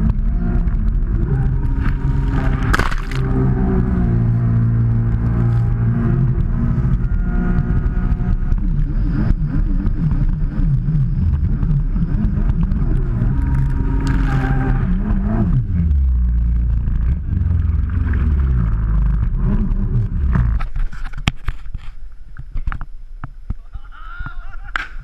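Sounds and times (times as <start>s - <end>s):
engine revving: 0.0s - 20.9s.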